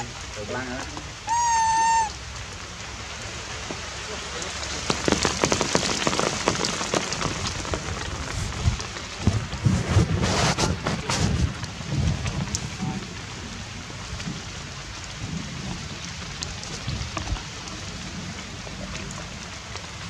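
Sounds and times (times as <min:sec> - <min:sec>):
light rain patter: 0:00.0 - 0:20.0
low rumbling: 0:00.0 - 0:20.0.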